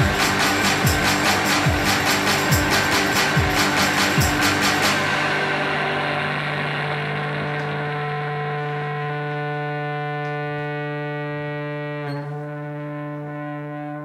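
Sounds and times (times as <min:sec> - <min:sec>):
droning amplified chord: 0:00.0 - 0:14.0.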